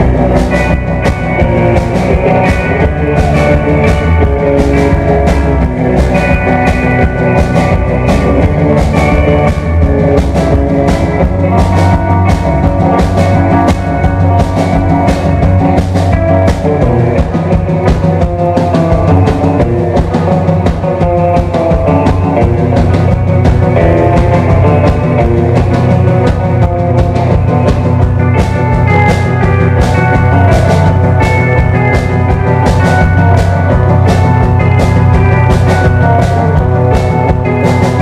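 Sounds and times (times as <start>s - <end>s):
drum kit beat: 0.0s - 38.0s
electric guitar: 0.0s - 38.0s.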